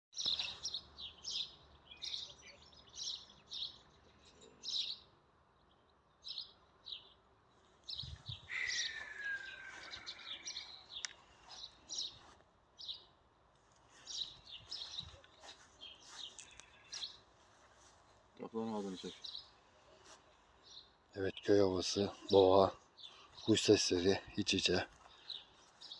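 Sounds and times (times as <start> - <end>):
songbirds chirping: 0.1 - 25.9.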